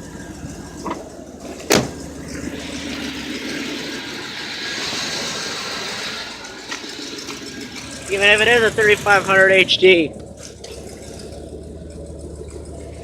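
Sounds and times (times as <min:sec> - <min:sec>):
engine running roughly: 0:00.0 - 0:13.0.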